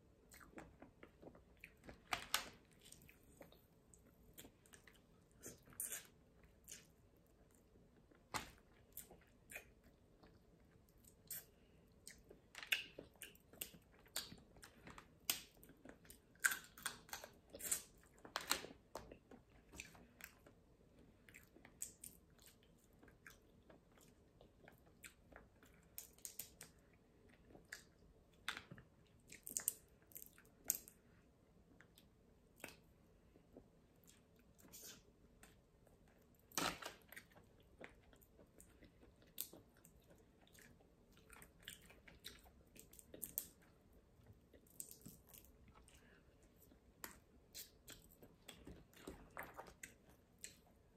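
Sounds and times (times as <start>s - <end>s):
person chewing: 0.2s - 31.0s, 33.5s - 50.8s.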